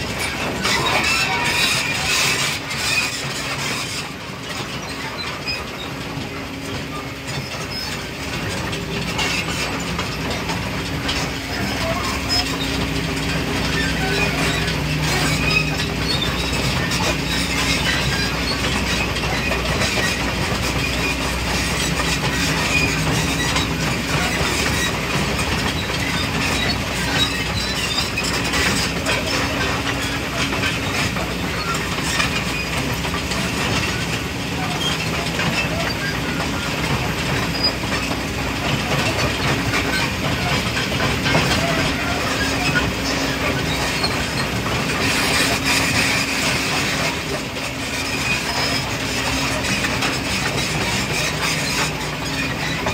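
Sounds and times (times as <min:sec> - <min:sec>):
excavator engine hum: 0:00.0 - 0:52.9
metallic clatter and squeal of tracks: 0:00.0 - 0:52.9.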